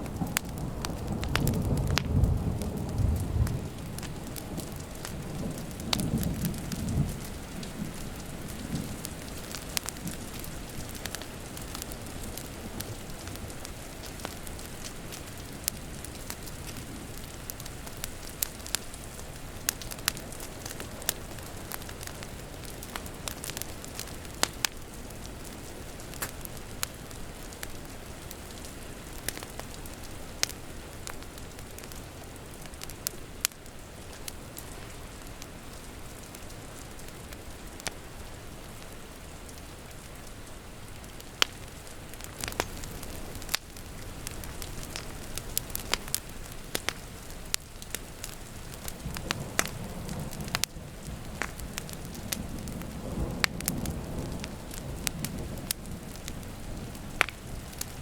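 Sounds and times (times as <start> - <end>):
rain hissing: 0.0 - 58.0
wood fire crackling: 0.0 - 58.0.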